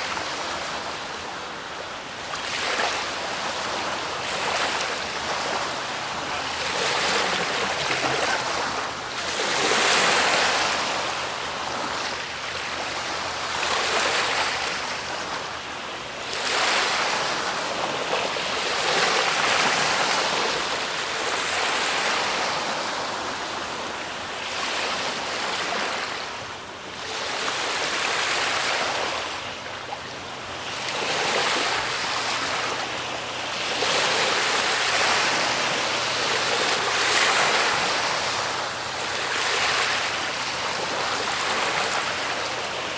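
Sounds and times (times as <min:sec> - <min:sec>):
waves washing in: 0:00.0 - 0:42.9.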